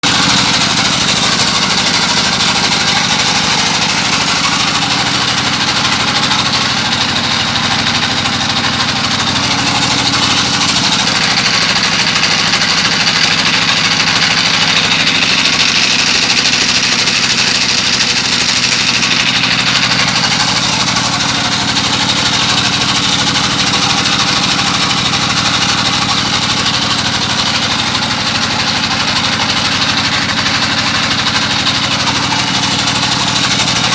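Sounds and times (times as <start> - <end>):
boat engine running: 0.0 - 33.9.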